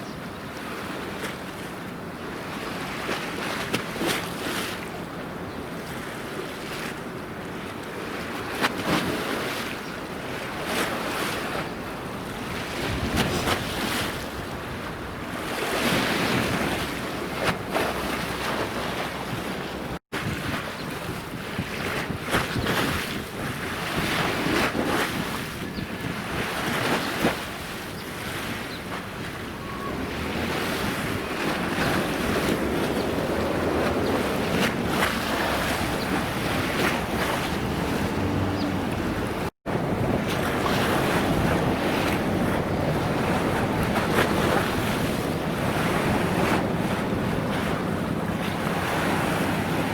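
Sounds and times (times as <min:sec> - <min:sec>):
sea waves washing: 0:08.0 - 0:49.9
wind buffeting microphone: 0:08.0 - 0:49.9.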